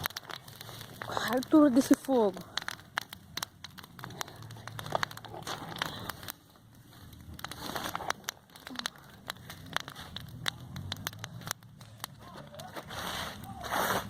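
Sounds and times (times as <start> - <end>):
bonfire crackling and popping: 0.0 - 14.0
low rumble of flames: 0.0 - 14.0.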